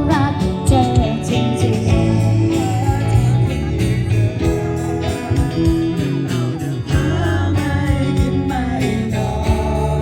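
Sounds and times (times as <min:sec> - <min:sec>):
person singing: 0:00.0 - 0:10.0
pop-rock band with guitar lead: 0:00.0 - 0:10.0.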